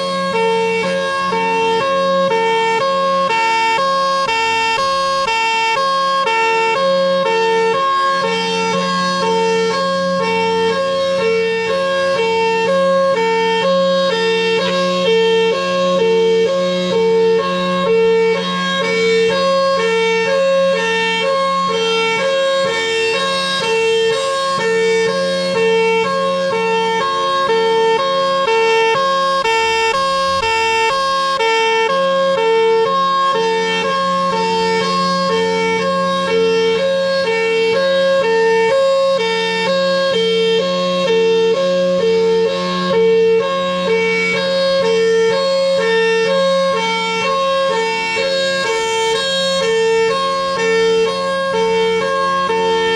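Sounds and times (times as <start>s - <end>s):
warning siren alternating high and low: 0.0s - 52.9s.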